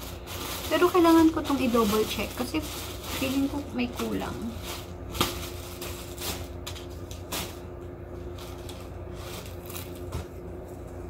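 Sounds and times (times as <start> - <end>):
plastic bag crinkling: 0.0 - 11.0
steady low hum: 0.0 - 11.0.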